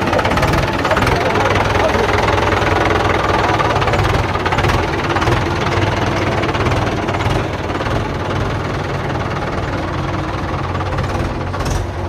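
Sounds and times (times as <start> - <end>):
diesel engine knocking: 0.0 - 12.0.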